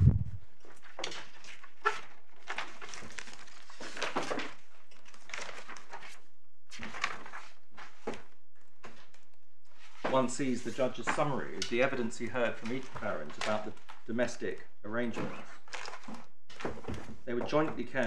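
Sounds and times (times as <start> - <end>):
paper rustling and pages turning: 0.5 - 14.4, 15.0 - 17.8.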